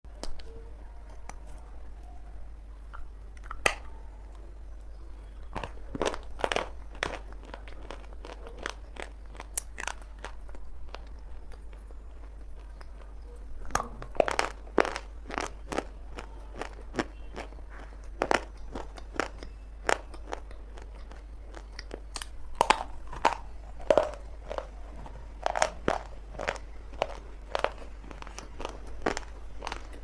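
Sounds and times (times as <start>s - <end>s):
clay chunks being chewed: 2.8s - 30.0s.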